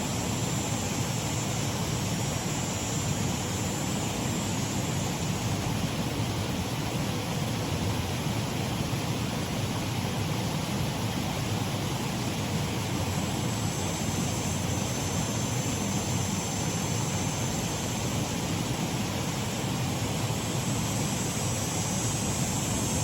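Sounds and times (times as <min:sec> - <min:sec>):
water running over waterfall: 0:00.0 - 0:23.0.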